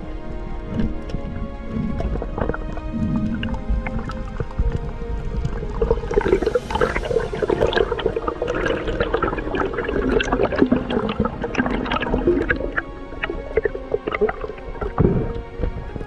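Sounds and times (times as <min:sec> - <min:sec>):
underwater bubbles gurgling: 0:00.0 - 0:16.0.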